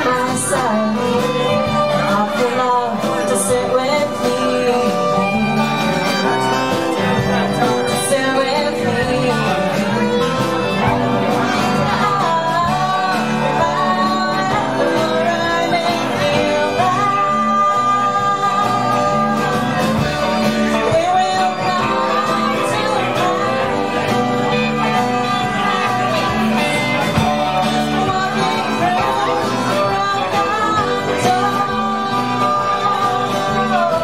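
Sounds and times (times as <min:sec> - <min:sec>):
live rock band playing: 0:00.0 - 0:34.0
woman singing lead: 0:00.0 - 0:34.0.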